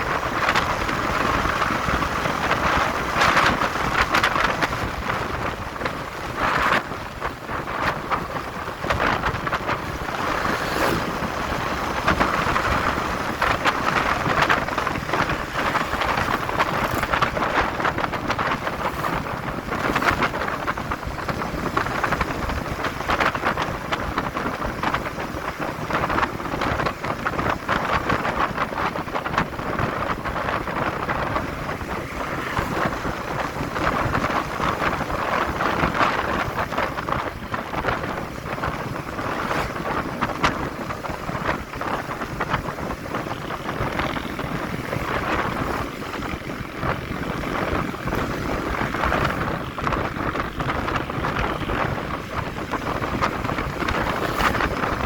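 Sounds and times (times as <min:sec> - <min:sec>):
motorcycle running: 0:00.0 - 0:55.0
road noise: 0:00.0 - 0:55.0
wind rushing over microphone: 0:00.0 - 0:55.0.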